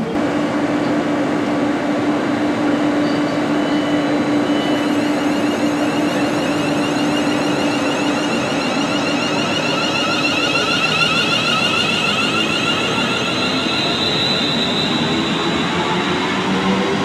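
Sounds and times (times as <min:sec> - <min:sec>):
train traction motor whine: 0:00.0 - 0:17.0
wheels rumbling on rails: 0:00.0 - 0:17.0.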